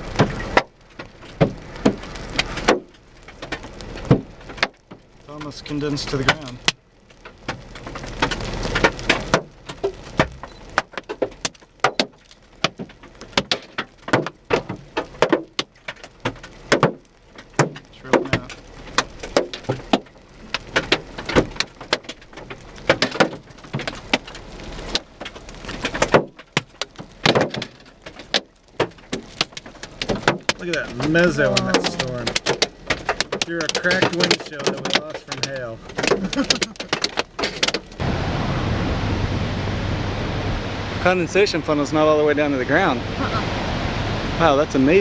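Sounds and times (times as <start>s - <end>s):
hailstones hitting car: 0.0s - 38.2s.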